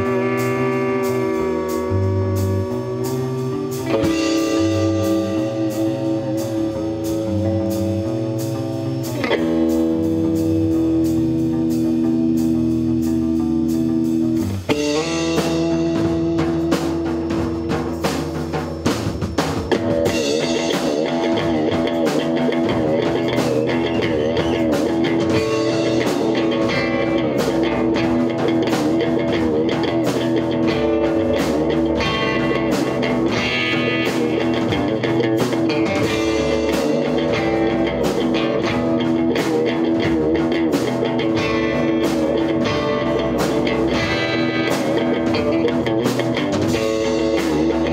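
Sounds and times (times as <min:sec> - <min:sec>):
rock band playing: 0:00.0 - 0:47.9
steady drum beat: 0:00.0 - 0:47.9.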